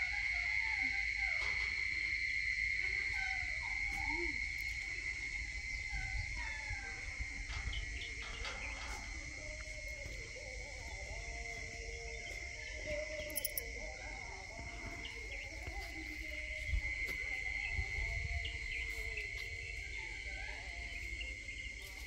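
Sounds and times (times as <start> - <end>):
high insect trill: 0.0 - 22.0.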